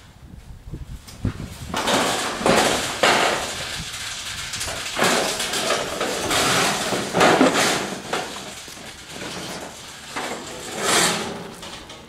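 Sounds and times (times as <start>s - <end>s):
sheet-metal panels scraping and rattling: 1.4s - 12.0s.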